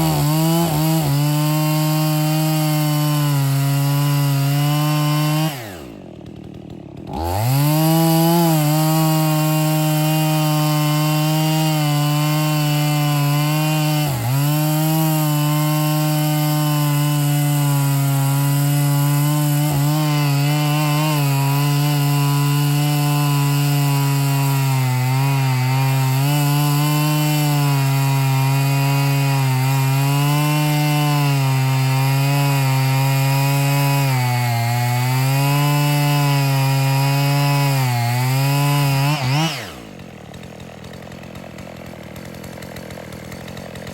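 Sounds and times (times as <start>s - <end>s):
chainsaw cutting through tree: 0.0s - 43.9s.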